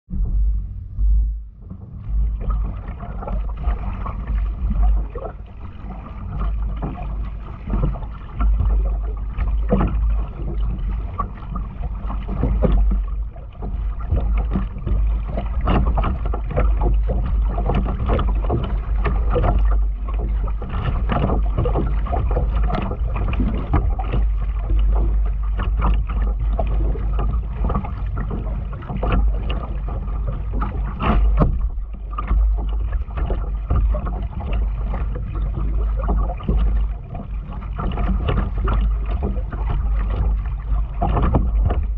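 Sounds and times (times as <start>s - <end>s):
paddle splashing in water: 0.1s - 41.9s.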